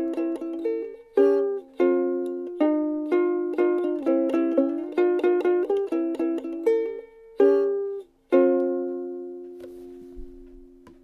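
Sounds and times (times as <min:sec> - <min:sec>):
ukulele plucked notes: 0:00.0 - 0:11.0
ukulele strummed chord: 0:00.0 - 0:11.0.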